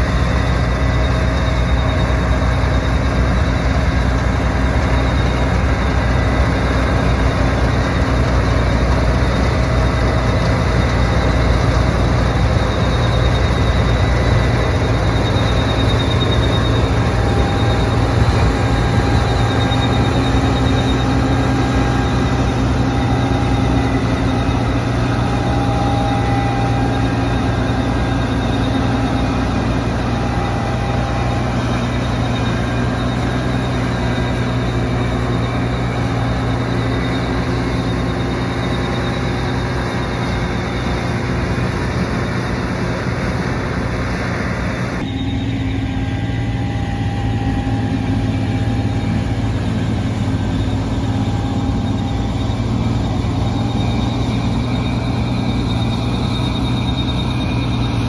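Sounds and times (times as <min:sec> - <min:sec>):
combine harvester droning: 0:00.0 - 0:58.0.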